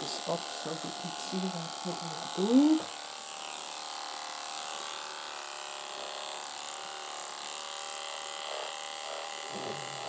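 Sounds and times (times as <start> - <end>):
electric clipper buzzing: 0.0 - 10.0.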